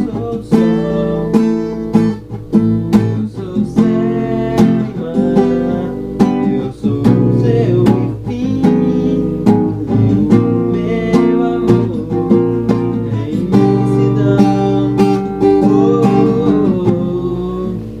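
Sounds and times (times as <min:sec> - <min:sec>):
faint singing voice: 0:00.0 - 0:18.0
strummed acoustic guitar: 0:00.0 - 0:18.0.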